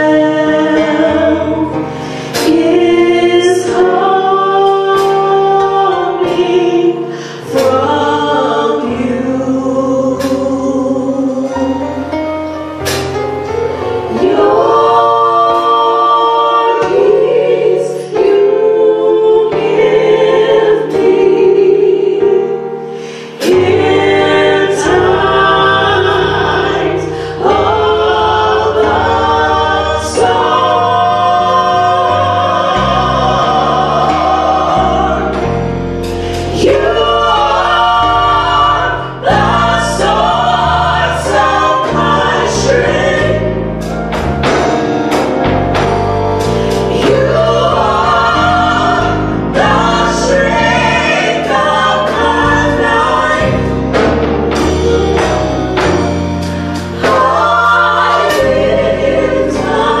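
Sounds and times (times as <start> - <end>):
gospel vocal group singing: 0.0 - 60.0
instrumental backing: 0.0 - 60.0.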